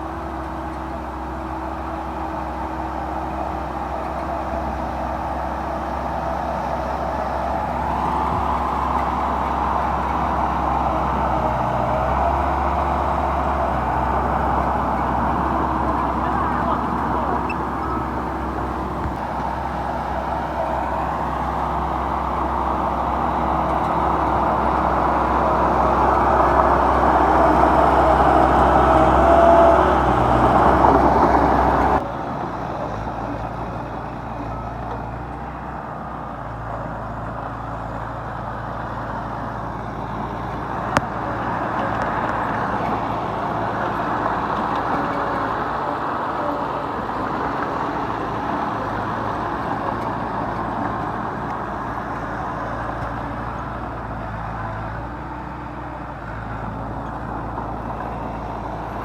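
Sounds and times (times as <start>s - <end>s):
construction machinery engine running: 0.0s - 59.0s.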